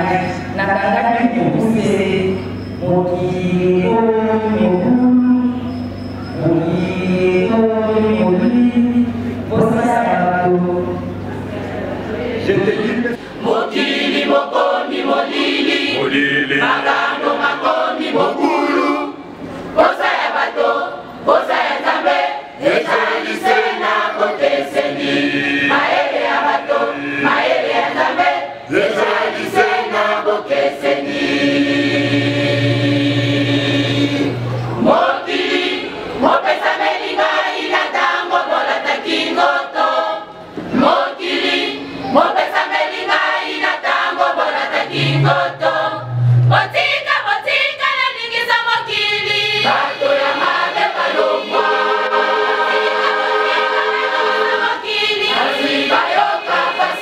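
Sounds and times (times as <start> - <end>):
mixed choir singing a hymn: 0.0 - 57.0.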